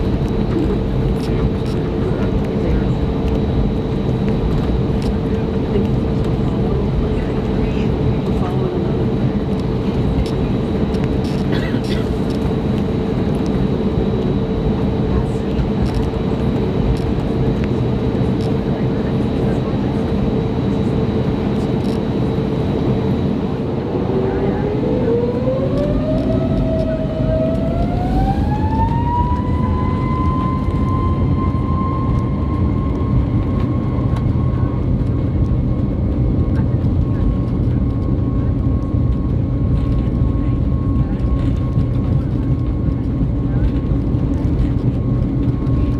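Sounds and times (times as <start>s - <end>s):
aircraft cabin engine rumble: 0.0s - 45.9s
constant hum: 0.0s - 45.9s
faint voices: 0.0s - 45.9s.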